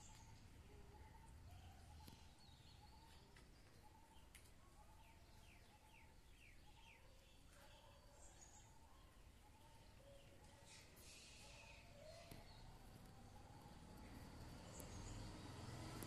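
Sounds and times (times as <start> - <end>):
distant birds calling: 0.0 - 16.0.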